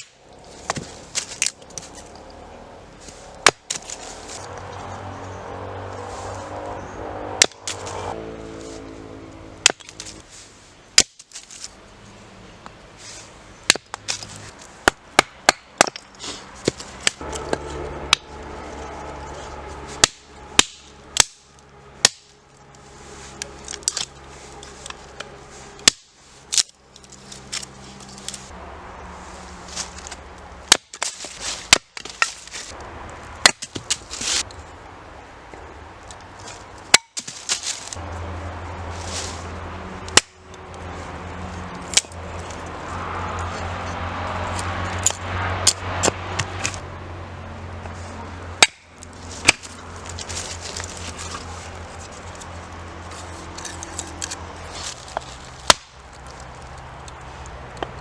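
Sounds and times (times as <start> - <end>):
hatchet splitting firewood: 0.0 - 5.1, 6.6 - 9.0, 9.6 - 10.3, 10.9 - 11.8, 12.6 - 28.5, 29.3 - 46.8, 47.8 - 58.0.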